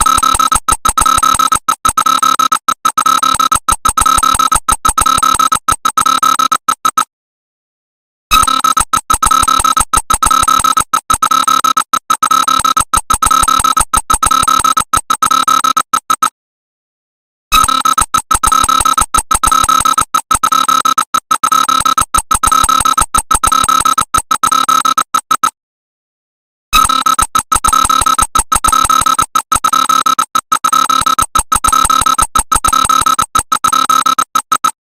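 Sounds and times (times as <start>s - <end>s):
pulsing electronic alert tone: 0.0s - 7.0s, 8.3s - 16.3s, 17.5s - 25.5s, 26.8s - 34.8s.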